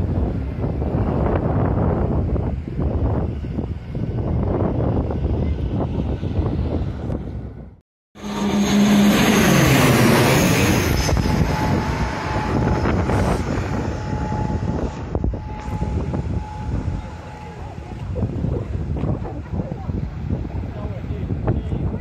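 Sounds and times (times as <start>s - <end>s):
wind buffeting microphone: 0.0s - 7.8s, 10.0s - 22.0s
high engine whine: 0.0s - 22.0s
jet airliner passing overhead: 0.0s - 22.0s.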